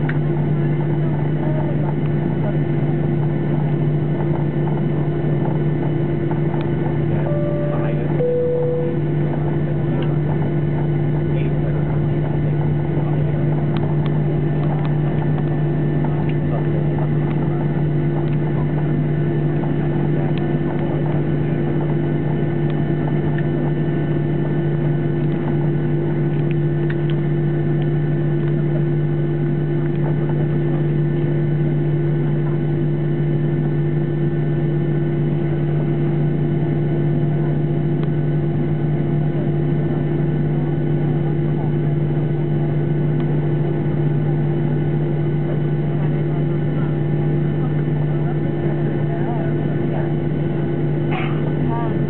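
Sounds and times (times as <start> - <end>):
airplane engines idling drone: 0.0 - 52.0.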